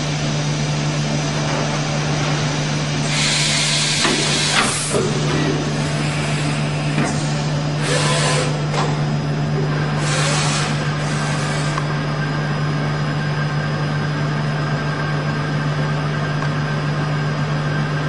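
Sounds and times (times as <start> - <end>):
machine low hum: 0.0 - 18.0.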